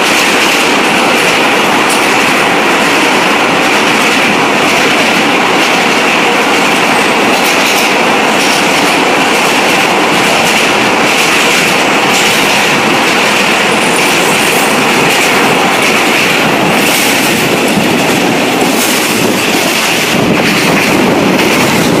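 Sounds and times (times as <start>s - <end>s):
train rolling on rails: 0.0s - 22.0s
wheels clicking on track: 0.0s - 22.0s.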